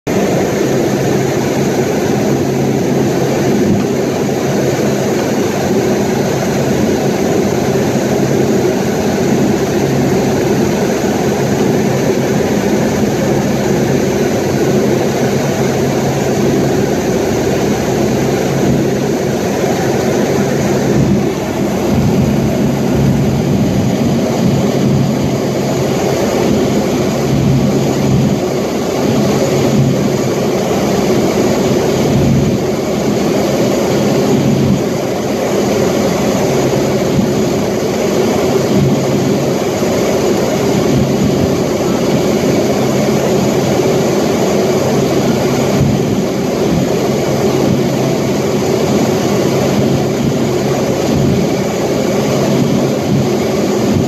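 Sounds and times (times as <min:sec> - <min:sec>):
aircraft cabin noise: 0:00.1 - 0:54.0
constant low hum: 0:00.1 - 0:54.0.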